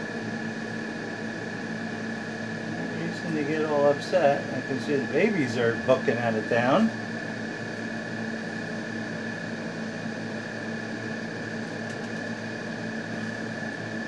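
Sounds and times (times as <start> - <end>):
constant high whine: 0.0 - 14.0
room equipment hum and hiss: 0.0 - 14.0.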